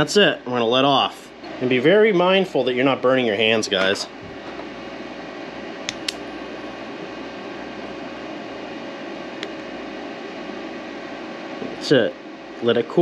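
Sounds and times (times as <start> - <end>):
fan-like whirring hiss: 0.0 - 13.0.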